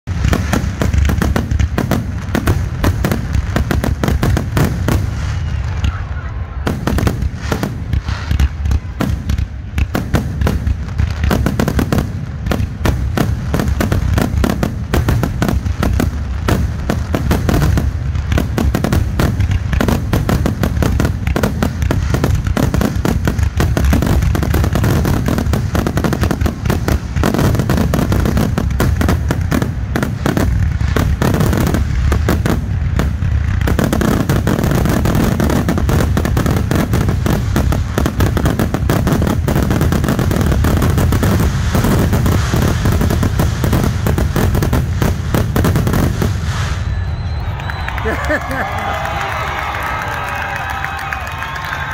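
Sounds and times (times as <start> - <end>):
fireworks bursting: 0.0 - 51.9.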